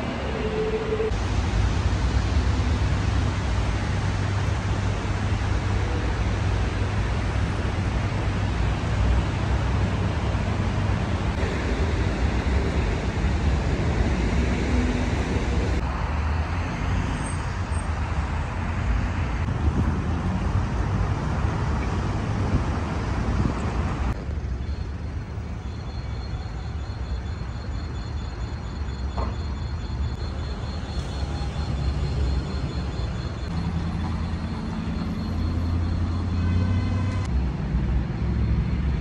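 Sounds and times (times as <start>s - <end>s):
city traffic rumble: 0.0s - 39.0s.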